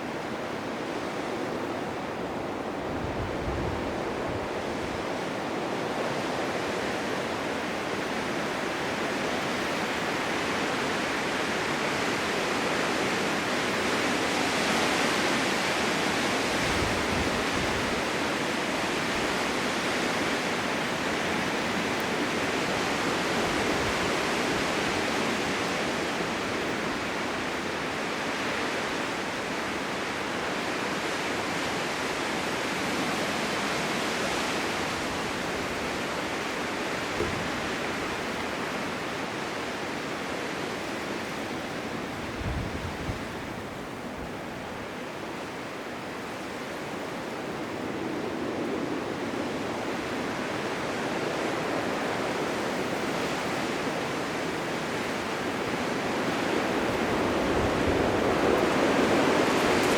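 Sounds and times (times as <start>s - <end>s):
blizzard wind rushing: 0.0s - 59.9s.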